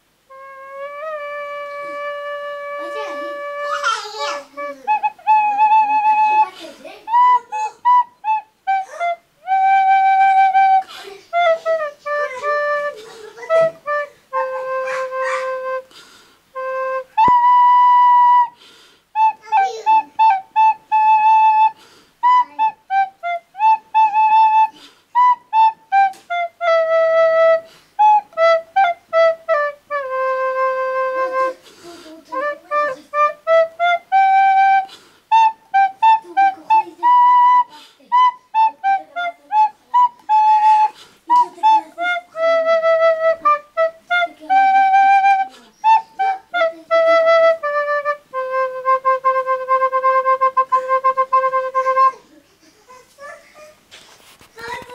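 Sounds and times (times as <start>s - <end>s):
recorder playing a simple tune: 0.0s - 52.4s.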